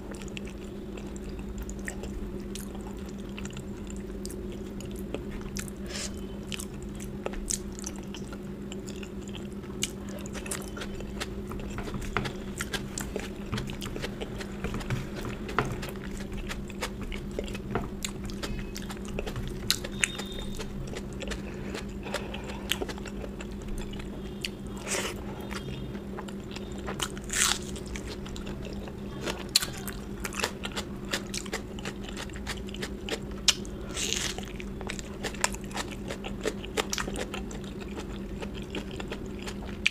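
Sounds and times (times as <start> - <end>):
low steady hum: 0.0 - 39.9
person chewing food: 0.0 - 39.9.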